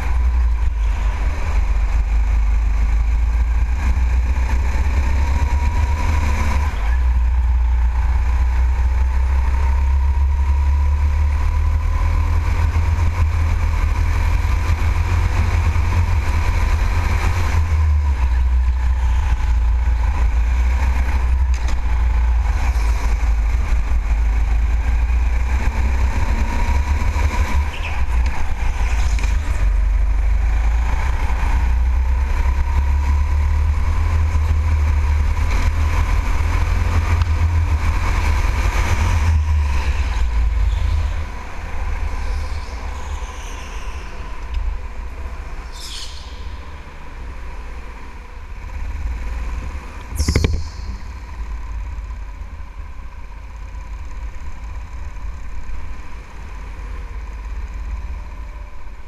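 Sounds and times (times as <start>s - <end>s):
go-kart engine racing: 0.0s - 59.0s.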